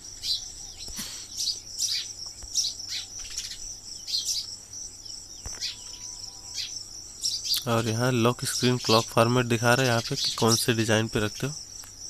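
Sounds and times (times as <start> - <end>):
birds chirping: 0.0 - 12.0
insects droning: 0.0 - 12.0.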